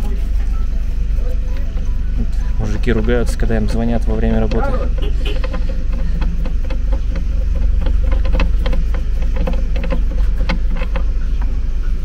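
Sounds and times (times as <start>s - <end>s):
faint steady hum: 0.0s - 12.0s
low mechanical rumble: 0.0s - 12.0s
small clicks and knocks: 1.5s - 11.6s.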